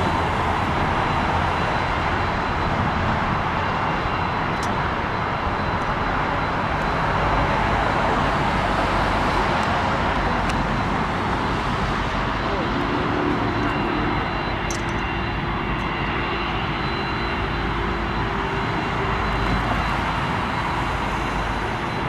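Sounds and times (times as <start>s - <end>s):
high engine whine: 0.0s - 22.0s
jet engines roaring: 0.0s - 22.0s.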